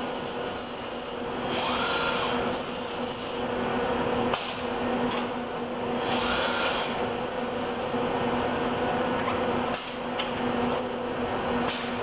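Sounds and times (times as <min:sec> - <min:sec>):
robot electric hum and hiss: 0:00.0 - 0:12.0.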